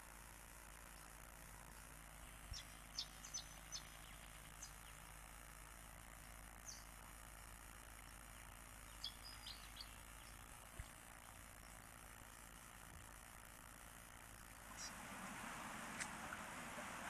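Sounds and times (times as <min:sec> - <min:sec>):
small birds chirping: 0:00.0 - 0:17.0
steady hiss: 0:00.0 - 0:17.0.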